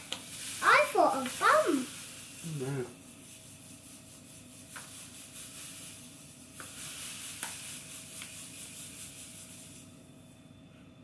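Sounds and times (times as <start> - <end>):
sugar pouring into bowl: 0.0 - 10.0.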